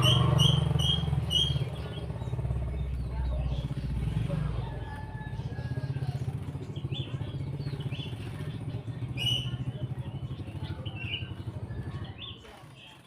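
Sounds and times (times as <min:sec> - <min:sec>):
bird chirping: 0:00.0 - 0:13.0
small engine running: 0:00.0 - 0:13.0.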